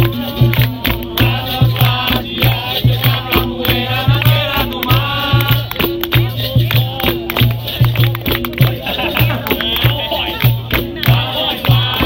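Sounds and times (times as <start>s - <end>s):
rattling percussion: 0.0s - 12.0s.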